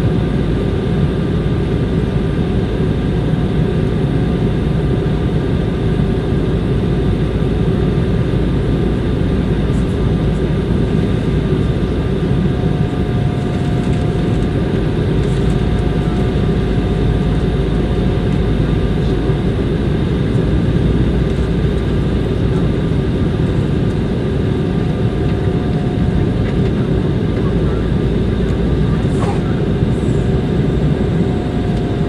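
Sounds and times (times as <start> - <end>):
jet engine cabin rumble: 0.0 - 32.0.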